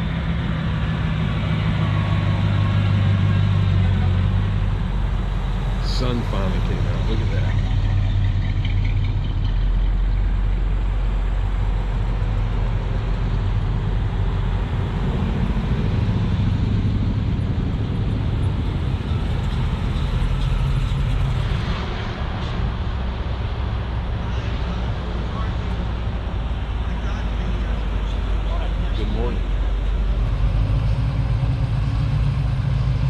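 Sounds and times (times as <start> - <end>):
motor vehicle rumble: 0.0 - 33.0.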